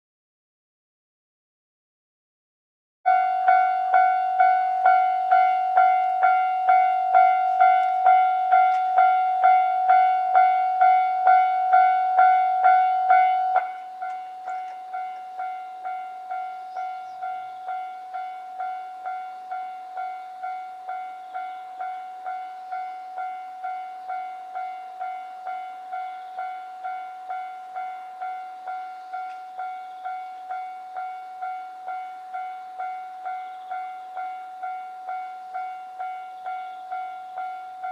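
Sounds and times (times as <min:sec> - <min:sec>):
level-crossing warning bell: 0:03.1 - 0:37.9.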